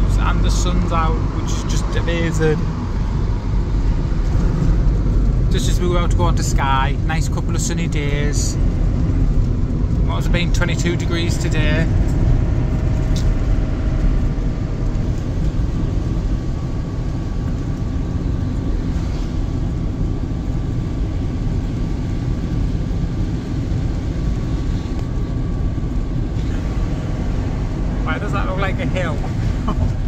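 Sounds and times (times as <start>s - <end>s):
engine and road noise in cab: 0.0s - 30.0s.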